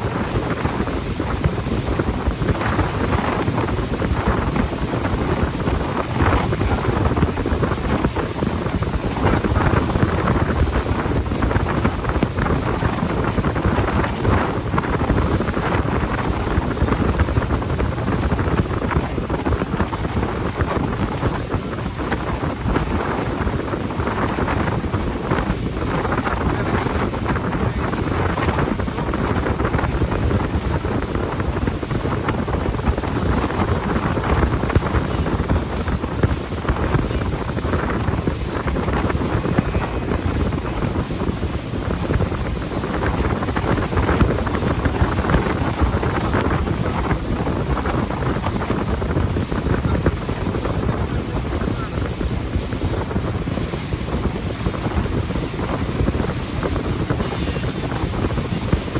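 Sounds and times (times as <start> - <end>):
boat engine running: 0.0 - 58.9
water: 0.0 - 58.9
wind rumbling on microphone: 0.0 - 58.9.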